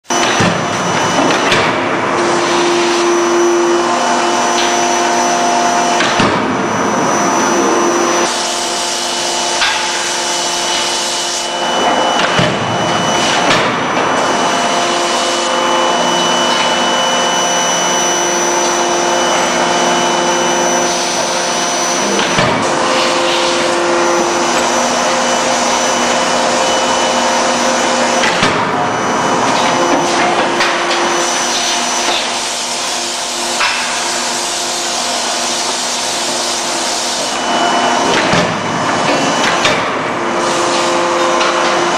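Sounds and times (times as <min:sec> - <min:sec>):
hydraulic system hiss and whine: 0:00.1 - 0:41.9.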